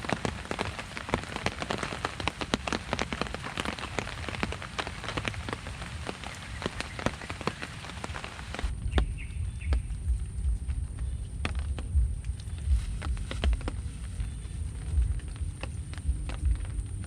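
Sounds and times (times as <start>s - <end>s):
rain falling: 0.0s - 17.0s
raindrops hitting a surface: 0.0s - 17.0s.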